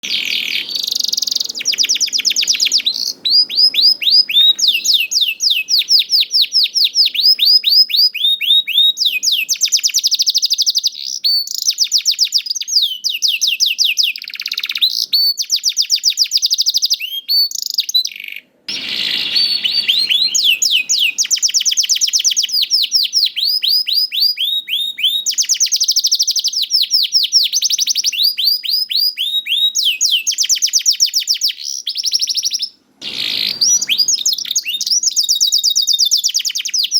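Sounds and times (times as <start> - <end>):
canary singing rolling trills: 0.0 - 36.9.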